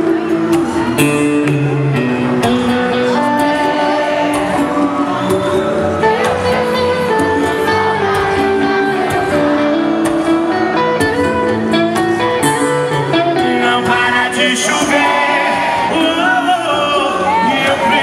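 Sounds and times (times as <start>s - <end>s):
live band led by guitar: 0.0s - 18.0s.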